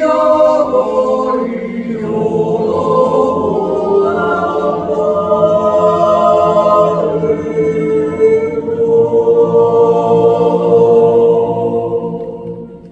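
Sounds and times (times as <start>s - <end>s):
choir yodeling a cappella: 0.0s - 12.9s.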